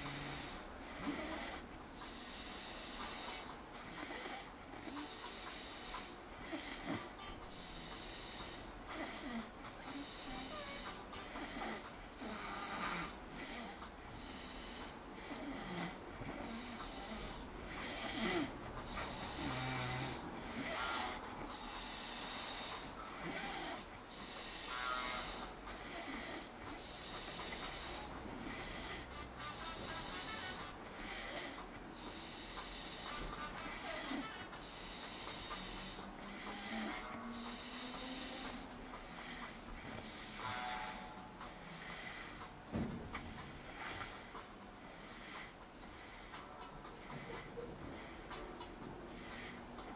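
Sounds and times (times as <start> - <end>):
man snoring: 0.0 - 49.9.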